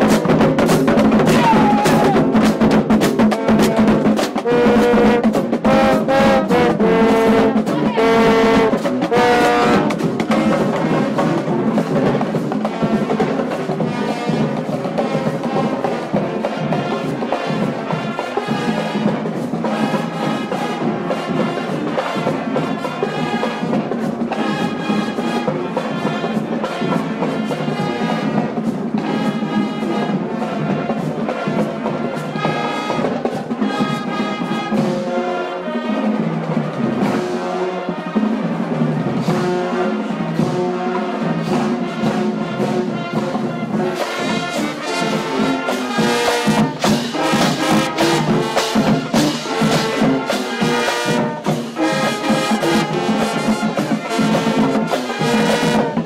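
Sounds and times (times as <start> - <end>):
brass section playing: 0.0 - 56.0
drumline beats: 0.0 - 56.0.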